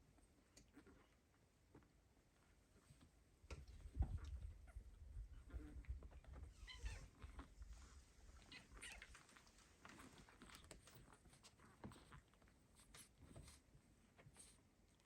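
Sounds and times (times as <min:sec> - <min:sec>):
kittens playing ticks and rustles: 0:00.0 - 0:15.0.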